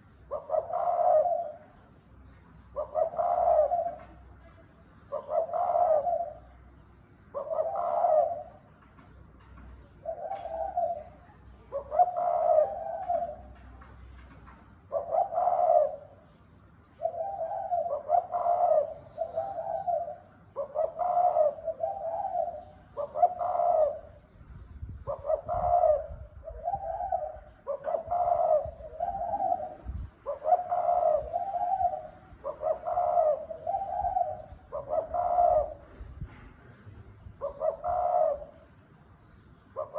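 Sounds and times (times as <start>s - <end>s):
dove cooing: 0.0s - 1.9s, 2.7s - 4.4s, 5.0s - 6.6s, 7.3s - 8.8s, 9.9s - 13.8s, 14.9s - 16.2s, 17.0s - 38.8s.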